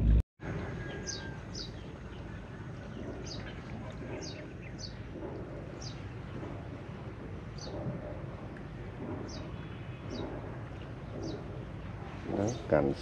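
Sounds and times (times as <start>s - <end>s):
low outdoor background: 0.0s - 13.0s.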